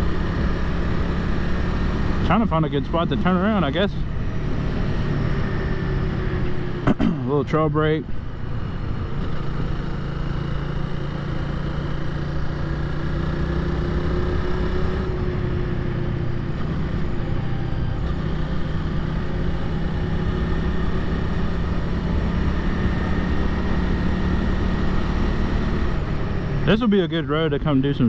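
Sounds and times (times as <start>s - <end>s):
motorcycle engine running: 0.0s - 27.4s.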